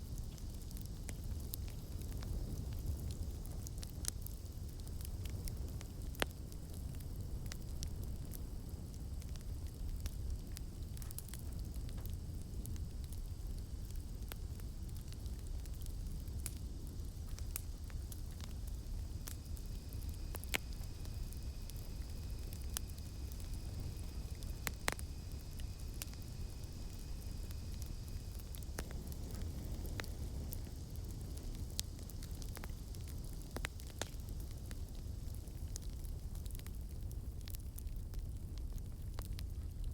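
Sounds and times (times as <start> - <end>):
campfire crackling and popping: 0.0 - 39.9
faint insect drone: 0.0 - 39.9.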